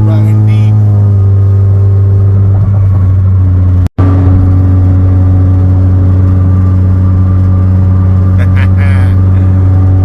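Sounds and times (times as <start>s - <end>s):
car engine and road drone: 0.0s - 10.0s.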